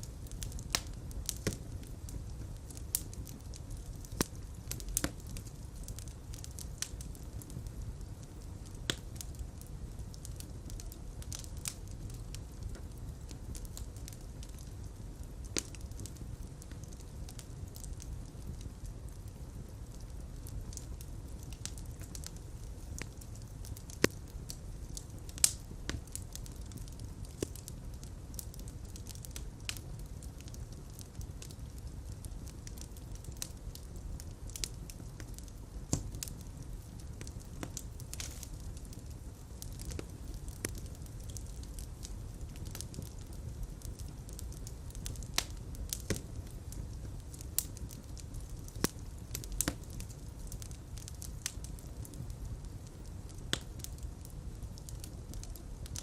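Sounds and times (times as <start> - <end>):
fire popping: 0.0 - 56.0
low rumble of flames: 0.0 - 56.0.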